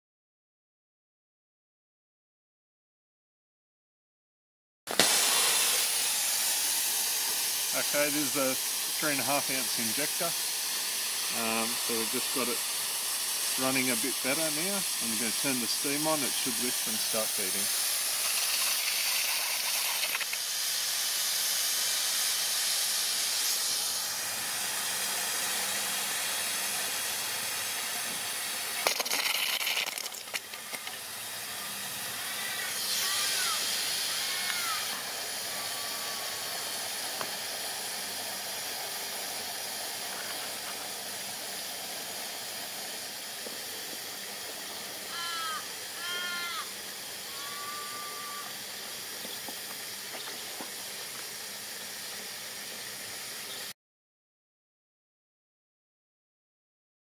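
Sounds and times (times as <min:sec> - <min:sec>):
steam hissing: 0:04.9 - 0:53.8.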